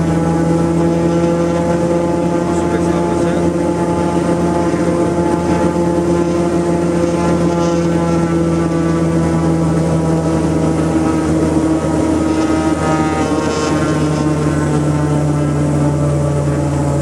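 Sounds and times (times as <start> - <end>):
turboprop engine drone: 0.0 - 17.0.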